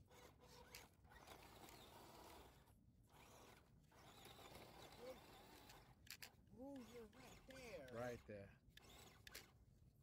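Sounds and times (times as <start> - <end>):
toy car electric motor whirring: 0.0 - 9.6.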